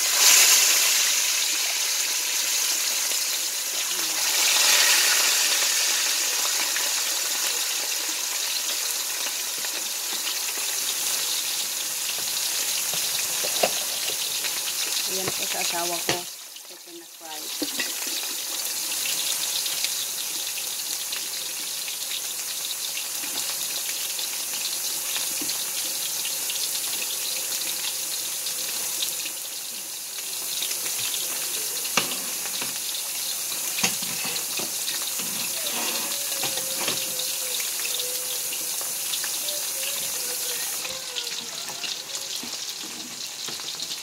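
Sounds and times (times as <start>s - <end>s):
chicken frying in hot oil: 0.0s - 44.0s.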